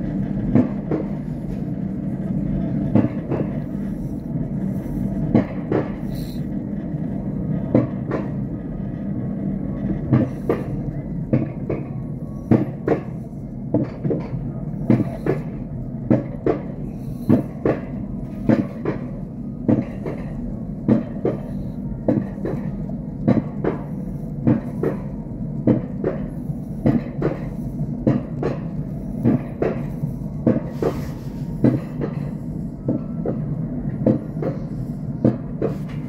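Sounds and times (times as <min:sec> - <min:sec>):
wheels rumbling on rails: 0:00.0 - 0:36.0
sharp clacks of lift track: 0:00.1 - 0:03.9, 0:04.6 - 0:06.2, 0:06.8 - 0:09.0, 0:09.7 - 0:36.0.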